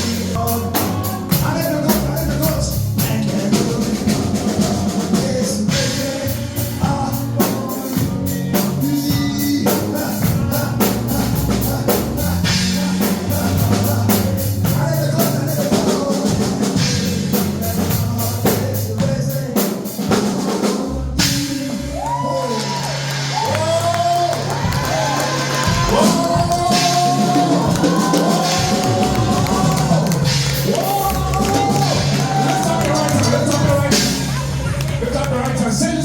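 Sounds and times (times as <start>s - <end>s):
drum kit beat: 0.0s - 36.0s
gospel band playing: 0.0s - 36.0s
voices singing: 0.0s - 36.0s.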